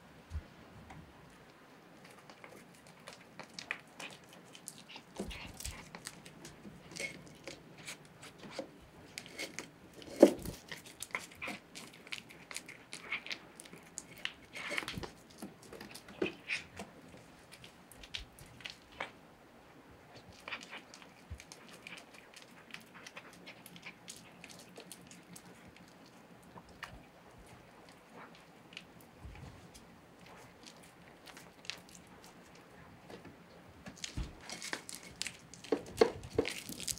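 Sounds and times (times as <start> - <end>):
cat chewing and smacking: 1.2 - 19.2, 20.0 - 33.3, 33.9 - 36.9.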